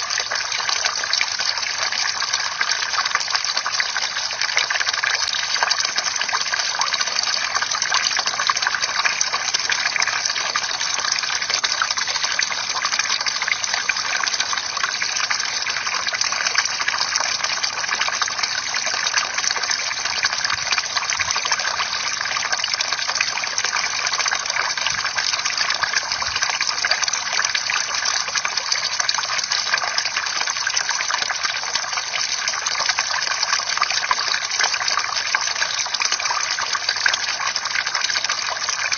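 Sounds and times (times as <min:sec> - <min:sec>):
fountain water pouring and splashing: 0:00.0 - 0:38.9.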